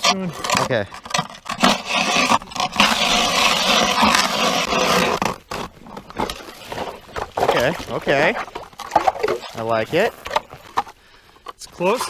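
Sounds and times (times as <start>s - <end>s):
ice auger grinding through ice: 0.0s - 11.0s.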